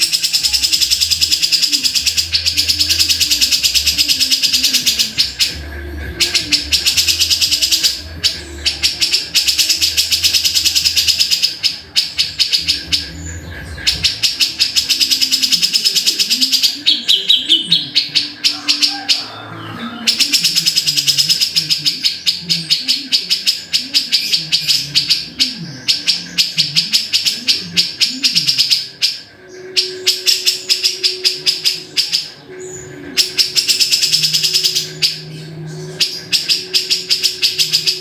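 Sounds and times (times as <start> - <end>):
bird calling rapid high notes: 0.0 - 38.0.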